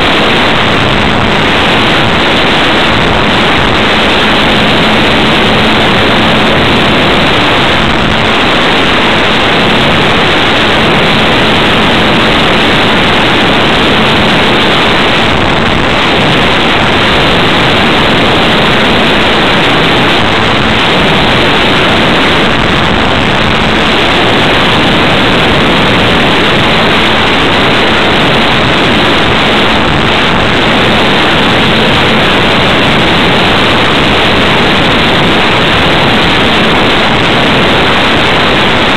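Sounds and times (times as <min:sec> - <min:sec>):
airflow and propeller rush: 0:00.0 - 0:38.9.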